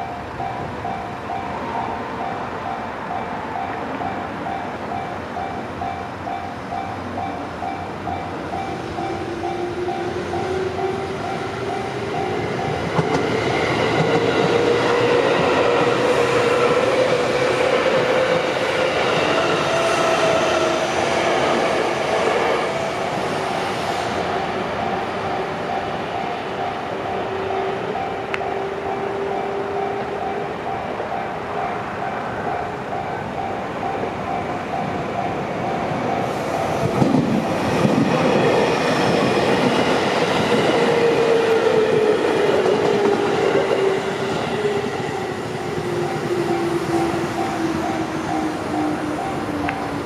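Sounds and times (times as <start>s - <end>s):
electric train running noise: 6.2s - 50.0s.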